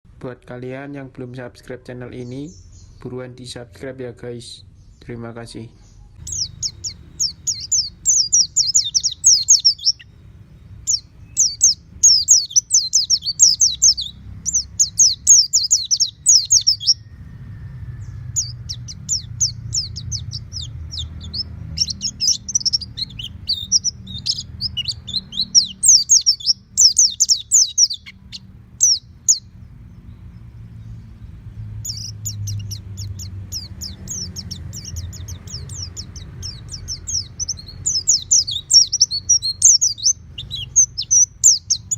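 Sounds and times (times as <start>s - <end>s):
bird twittering song: 0.7s - 41.9s.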